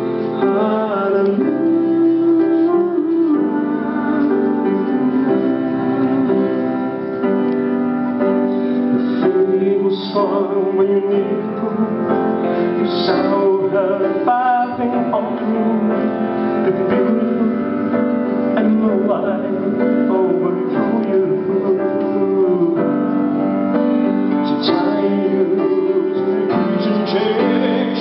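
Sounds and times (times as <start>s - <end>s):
man singing: 0.0s - 7.2s, 9.0s - 28.0s
grand piano: 0.0s - 28.0s.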